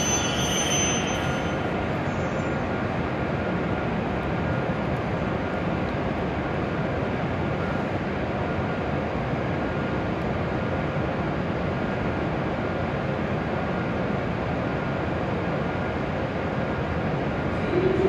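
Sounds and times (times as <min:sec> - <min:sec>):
train equipment rumbling hum: 0:00.0 - 0:18.0.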